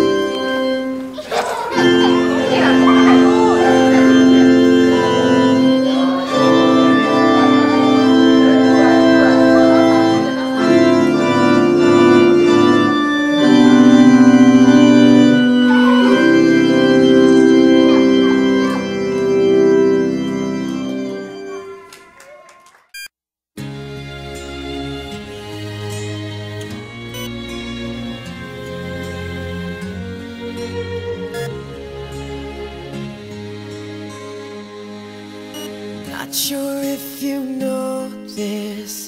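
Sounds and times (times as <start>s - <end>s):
organ chords: 0.0s - 21.9s, 23.6s - 36.2s.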